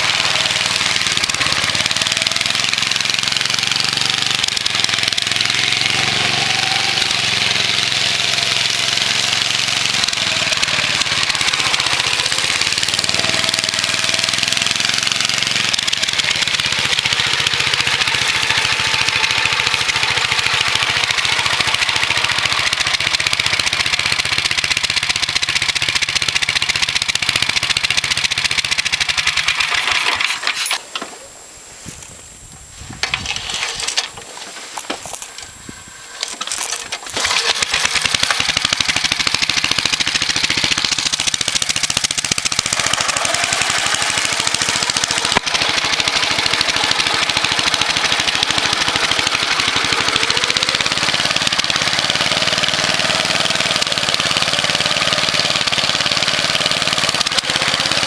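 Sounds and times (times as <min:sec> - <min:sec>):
small mower engine running: 0:00.0 - 0:31.0, 0:32.8 - 0:58.0.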